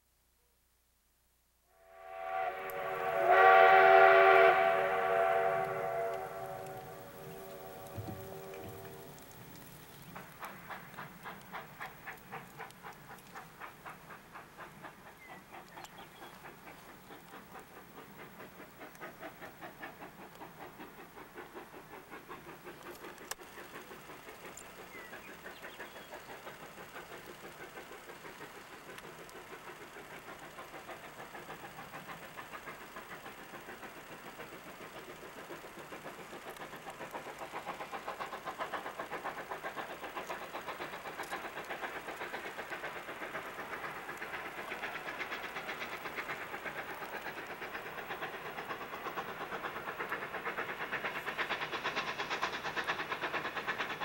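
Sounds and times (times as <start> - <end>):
steam locomotive chuffing: 1.8 - 54.0.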